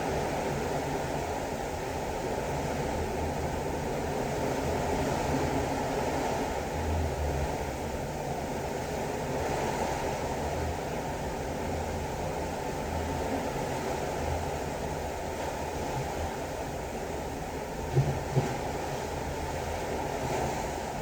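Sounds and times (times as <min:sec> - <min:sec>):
waves washing along ship hull: 0:00.0 - 0:21.0.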